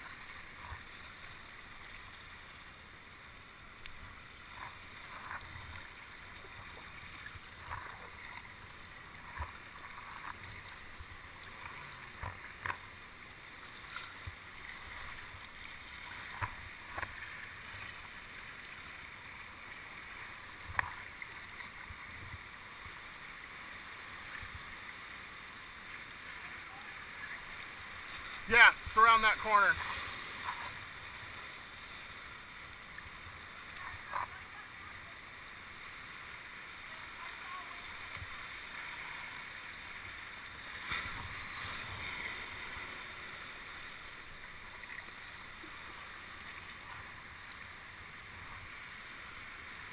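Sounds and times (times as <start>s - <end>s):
sea and wind hiss: 0.0s - 49.9s
water splashing around kayak: 0.0s - 49.9s.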